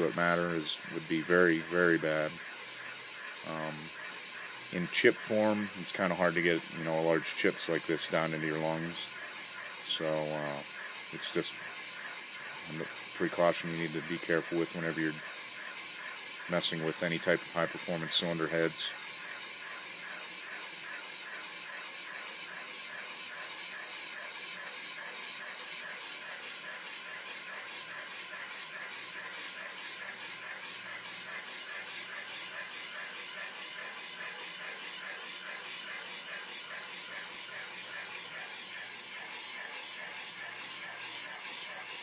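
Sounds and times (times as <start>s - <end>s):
boring cutter cutting metal: 0.0s - 42.0s.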